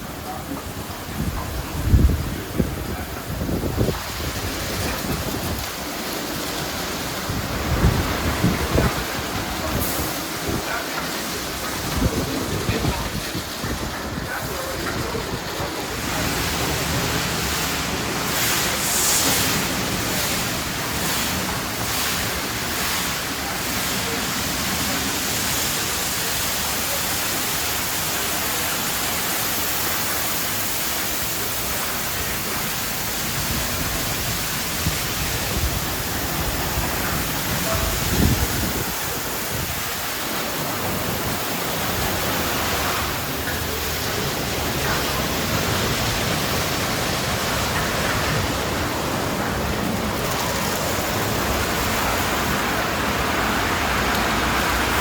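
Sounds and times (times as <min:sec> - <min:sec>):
car wash rushing spray: 0:00.0 - 0:55.0.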